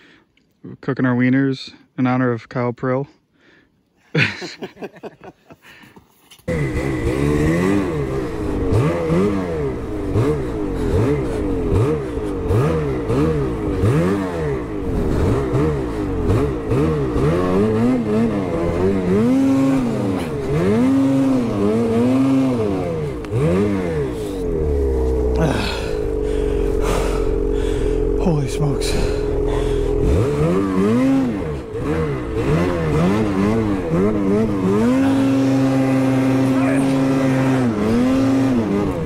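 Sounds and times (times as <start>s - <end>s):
snowmobile engine revving: 6.5s - 39.0s.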